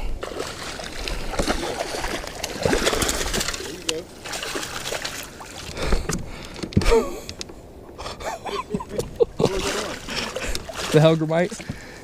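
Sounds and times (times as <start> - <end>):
water washing: 0.2 - 6.5, 8.2 - 12.0.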